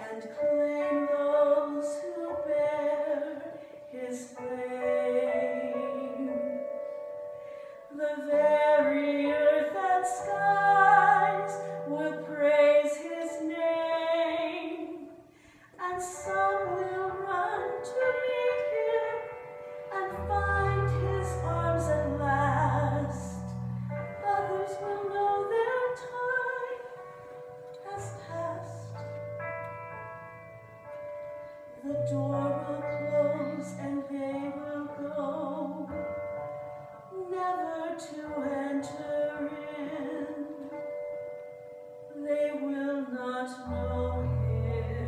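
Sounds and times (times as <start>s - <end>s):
woman singing: 0.0s - 7.0s, 7.8s - 29.2s, 31.8s - 36.2s, 37.1s - 41.0s, 42.1s - 45.0s.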